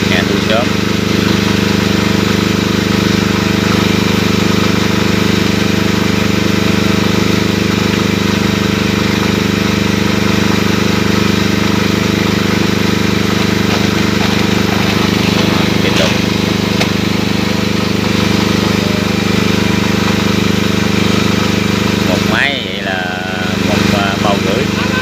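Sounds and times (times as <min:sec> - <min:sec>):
drone rotors humming: 0:00.0 - 0:25.0.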